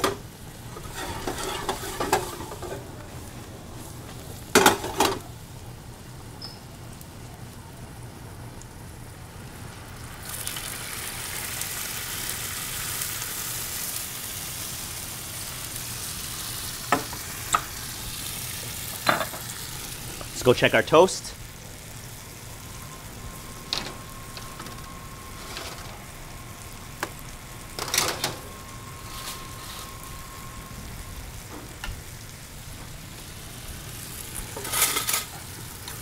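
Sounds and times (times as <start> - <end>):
food sizzling in a skillet: 0.4 - 5.0, 9.4 - 27.8, 28.5 - 36.0.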